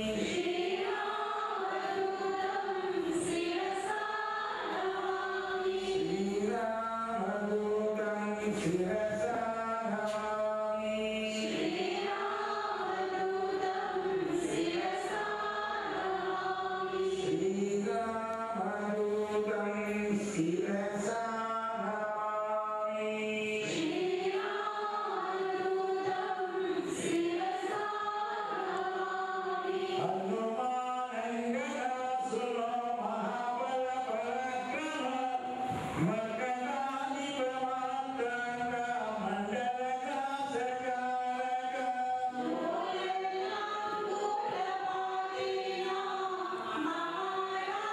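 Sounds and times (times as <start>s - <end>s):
group chanting devotional song: 0.0s - 47.9s.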